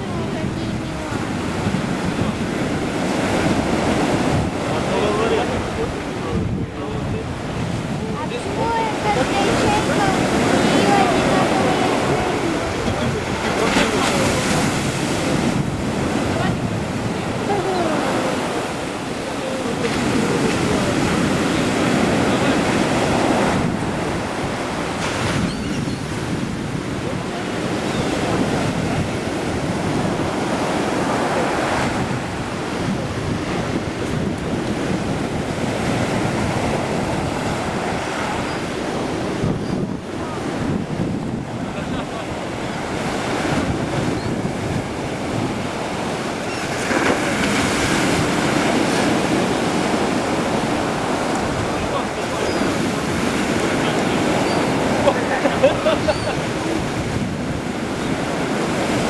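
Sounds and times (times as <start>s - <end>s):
surf breaking onto shore: 0.0s - 59.0s
wind buffeting microphone: 0.0s - 59.0s.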